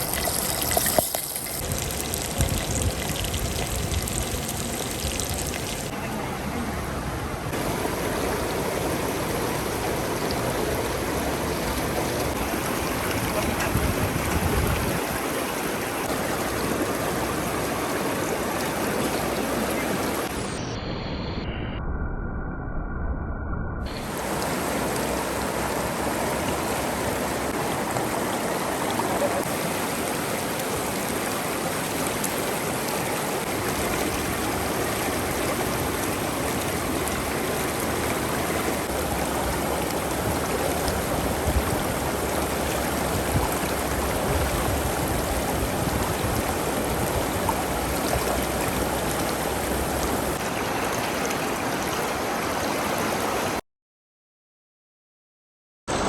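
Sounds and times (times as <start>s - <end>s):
river water rushing: 3.2s - 20.5s, 23.9s - 53.6s.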